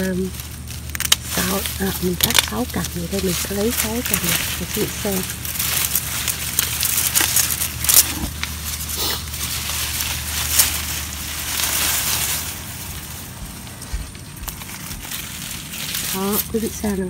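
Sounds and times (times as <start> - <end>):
plant stalks rustling and crackling: 0.0 - 17.0.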